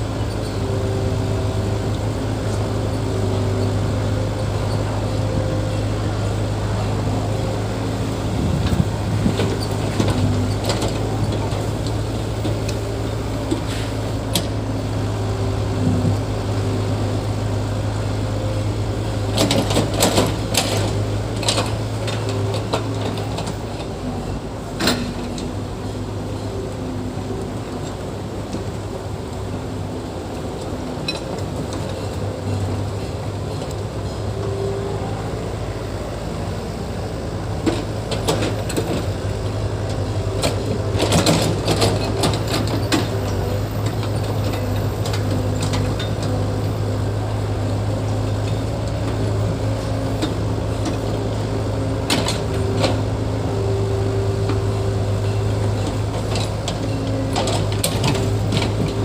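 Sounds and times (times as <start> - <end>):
bulldozer engine humming: 0.0 - 59.0.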